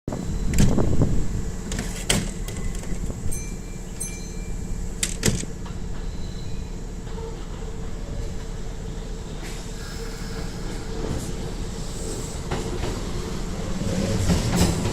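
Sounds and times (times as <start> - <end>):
train running past: 2.7 - 14.9.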